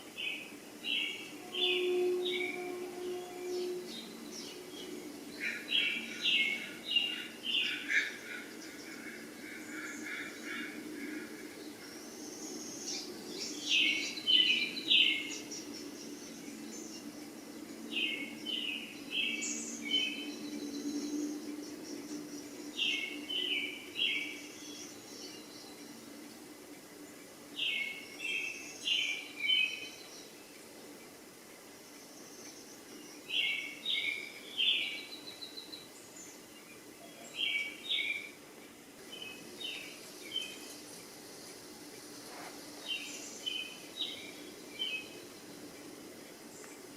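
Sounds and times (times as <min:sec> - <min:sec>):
songbird chirping: 0:00.0 - 0:46.9
steady low hum: 0:00.0 - 0:46.9.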